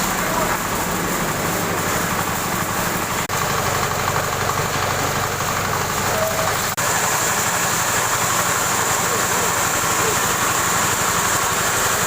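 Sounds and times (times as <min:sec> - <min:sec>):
feed crumbler machine running: 0:00.0 - 0:12.0.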